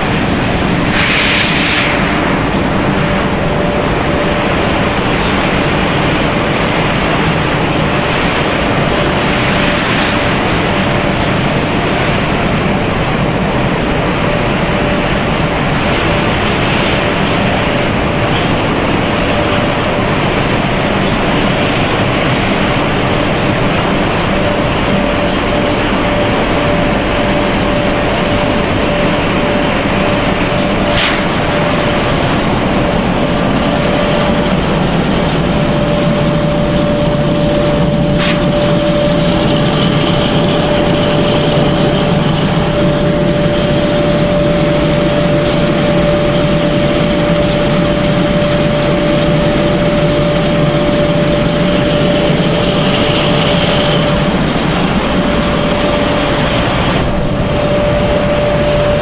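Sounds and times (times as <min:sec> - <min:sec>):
machinery hum with whine: 0:00.0 - 0:59.0.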